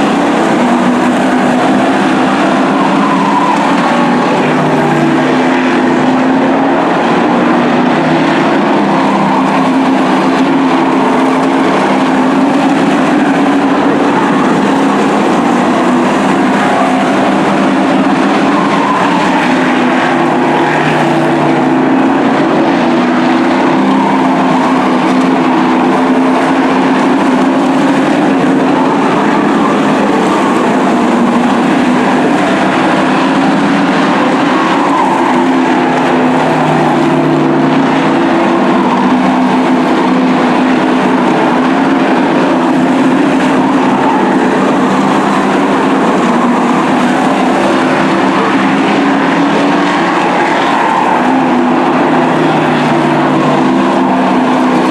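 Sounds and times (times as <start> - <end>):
race trucks engines roaring: 0.0 - 54.9.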